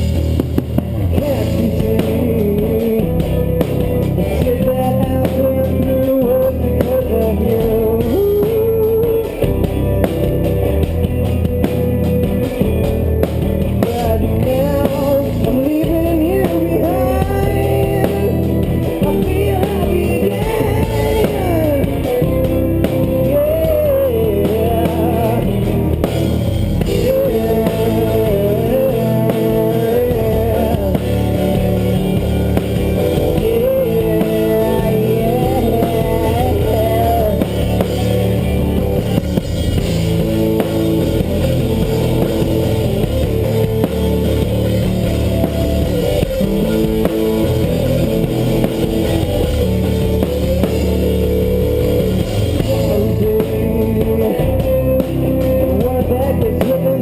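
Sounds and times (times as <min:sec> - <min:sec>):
gliding melodic lead line: 0:00.0 - 0:57.0
rock band playing: 0:00.0 - 0:57.0.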